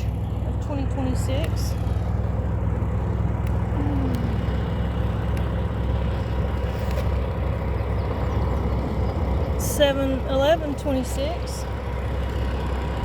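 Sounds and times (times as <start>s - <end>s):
motor vehicle engine rumble: 0.0s - 13.0s.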